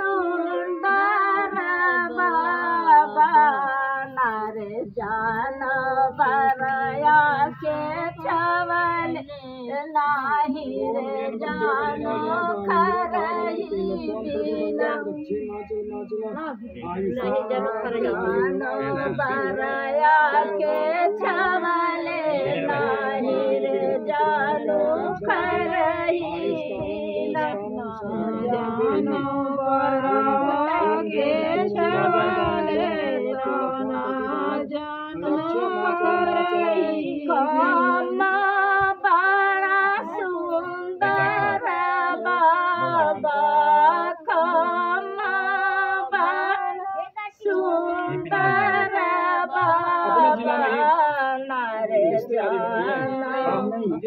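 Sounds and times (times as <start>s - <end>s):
women singing unaccompanied: 0.0s - 54.0s.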